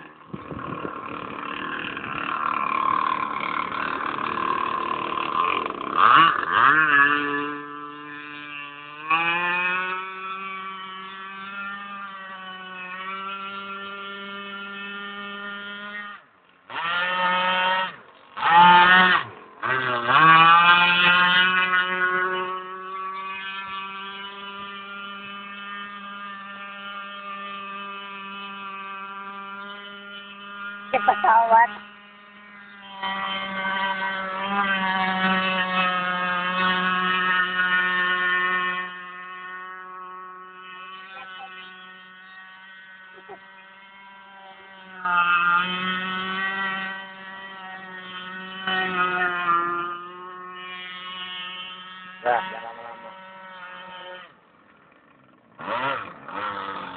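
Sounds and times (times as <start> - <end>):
model boat motor whine: 0.0 - 56.9.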